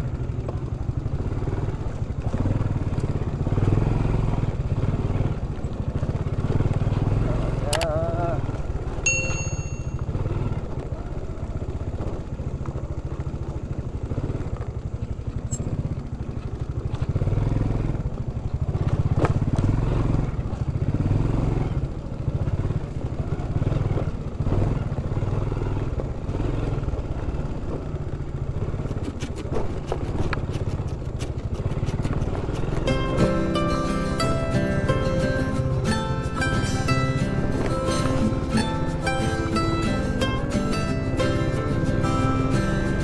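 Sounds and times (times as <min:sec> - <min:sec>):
small motorcycle engine running: 0:00.0 - 0:43.0.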